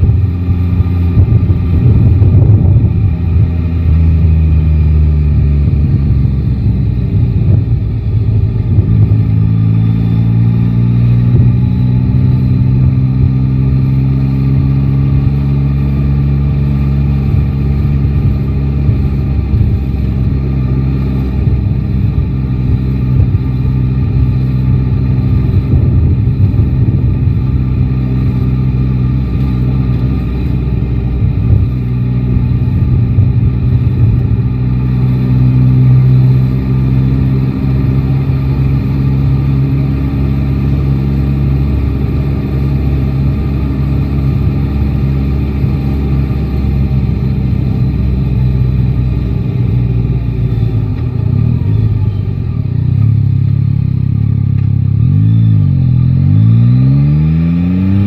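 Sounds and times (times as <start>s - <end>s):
wind rumble on microphone: 0.0s - 53.4s
motorcycle engine accelerating: 0.0s - 58.0s.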